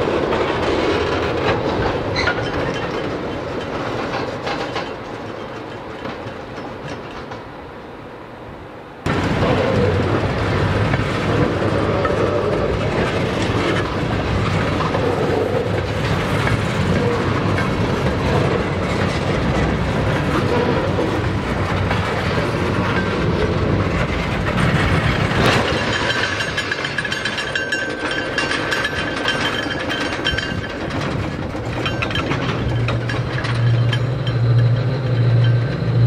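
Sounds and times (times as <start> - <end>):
wheels clacking over rail joints: 0.0 - 7.9, 9.0 - 36.0
train wheels rumbling on rail: 0.0 - 36.0.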